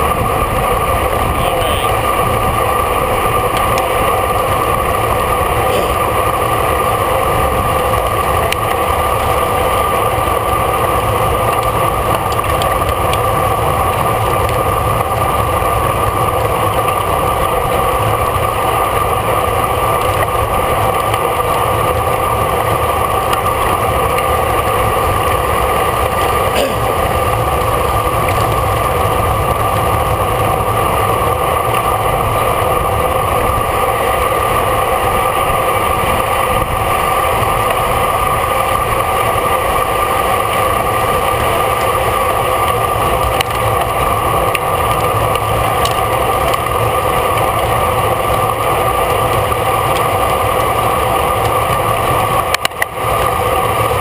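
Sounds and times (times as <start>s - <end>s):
bicycle tyre and drivetrain noise: 0.0s - 54.0s.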